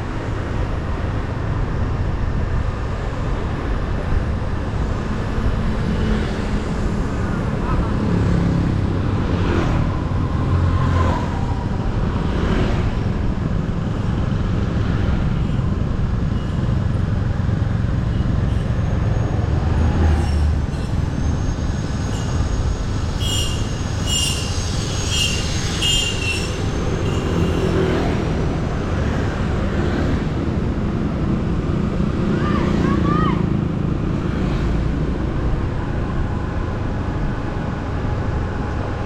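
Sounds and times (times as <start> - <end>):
road noise: 0.0 - 39.0.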